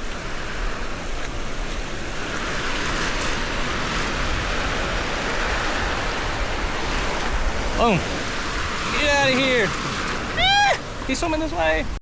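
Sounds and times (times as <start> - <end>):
surf washing up beach: 0.0 - 12.0
wind rumbling on microphone: 0.0 - 12.0.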